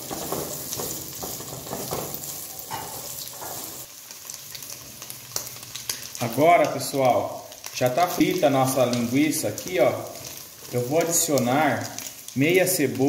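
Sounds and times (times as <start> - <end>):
sausage sizzling in a frying pan: 0.0 - 13.0.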